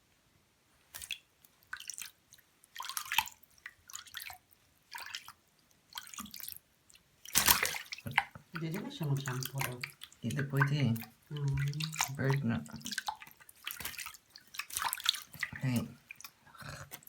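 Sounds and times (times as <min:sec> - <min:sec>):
water splashing and dripping: 0:00.9 - 0:17.0.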